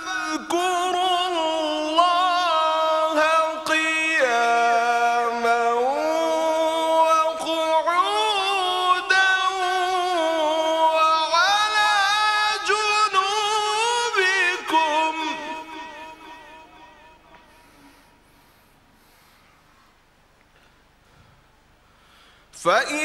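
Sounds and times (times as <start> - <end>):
man reciting melodically: 0.0 - 18.1, 22.5 - 23.0.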